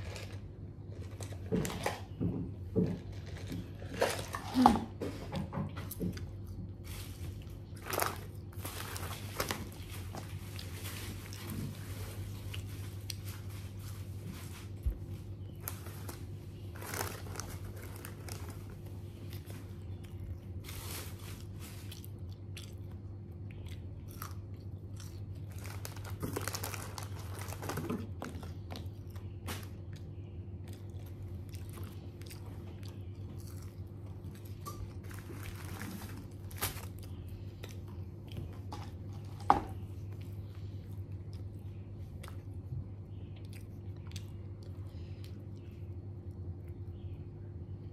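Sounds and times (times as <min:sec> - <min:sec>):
chewing and crunching food: 0:00.0 - 0:47.9
steady low hum: 0:00.0 - 0:47.9.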